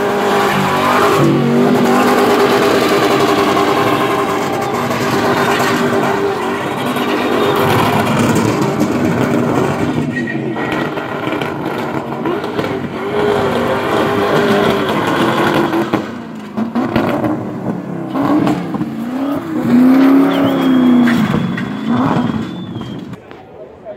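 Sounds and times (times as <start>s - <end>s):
car engine revving hard: 0.0s - 23.1s
tyres spinning on tarmac: 0.0s - 23.2s.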